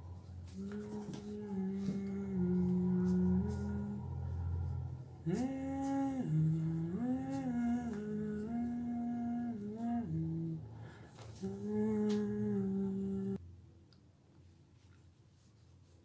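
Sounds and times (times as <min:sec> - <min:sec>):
person humming a slow tune: 0:00.0 - 0:13.4.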